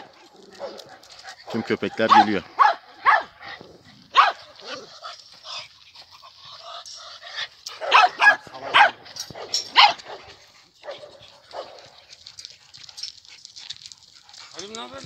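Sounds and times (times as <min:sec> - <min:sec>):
dogs barking: 0:00.0 - 0:05.0, 0:07.4 - 0:14.8.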